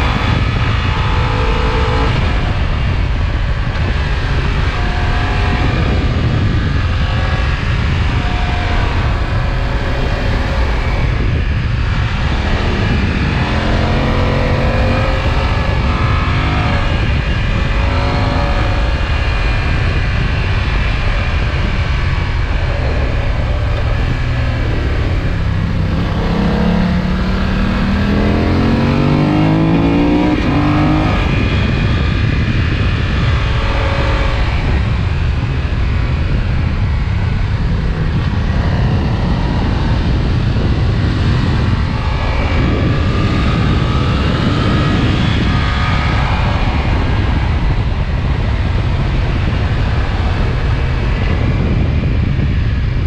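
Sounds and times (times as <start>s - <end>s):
heavy low rumble: 0.0s - 53.0s
motorcycle engine and exhaust: 0.0s - 53.0s.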